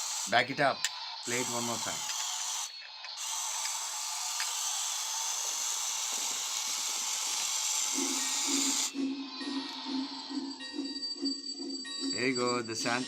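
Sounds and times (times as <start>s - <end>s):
toy train motor whirring: 0.0s - 10.7s.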